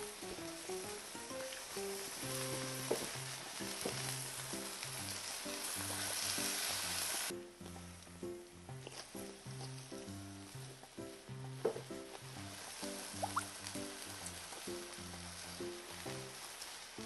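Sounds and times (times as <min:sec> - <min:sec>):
background music: 0:00.0 - 0:17.0
meat sizzling on a grill: 0:00.0 - 0:17.0.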